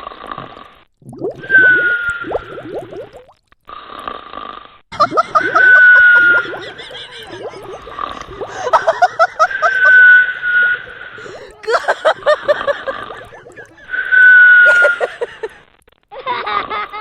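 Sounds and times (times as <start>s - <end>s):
bubbly sputtering puffs: 0.0s - 3.4s, 4.9s - 15.6s.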